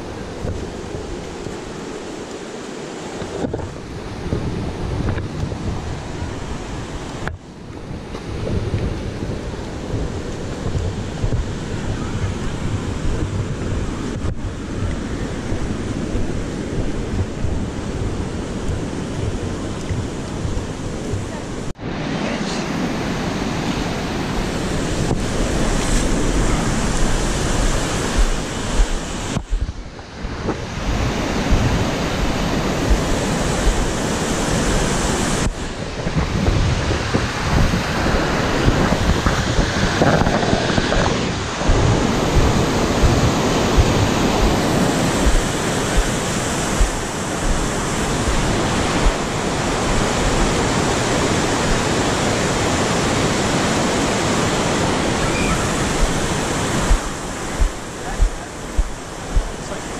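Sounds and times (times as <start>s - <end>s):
white water roaring: 0.0s - 59.9s
wind buffeting microphone: 0.0s - 59.9s.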